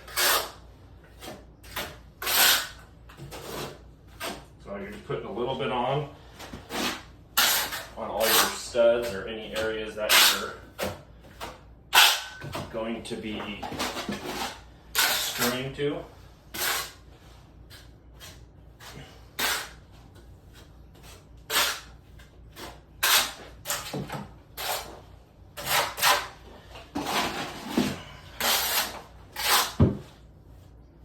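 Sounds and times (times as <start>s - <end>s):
trowel scraping mortar: 0.0s - 5.1s, 6.4s - 11.0s, 13.3s - 15.7s, 16.5s - 17.1s, 17.7s - 30.2s.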